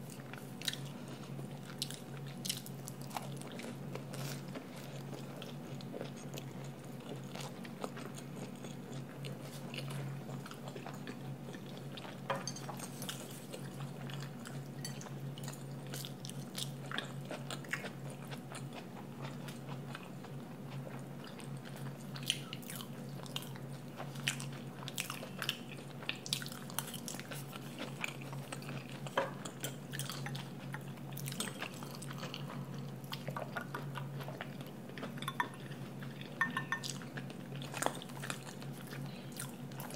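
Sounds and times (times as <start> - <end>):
steady low hum: 0.0 - 39.9
chewing: 0.1 - 39.9.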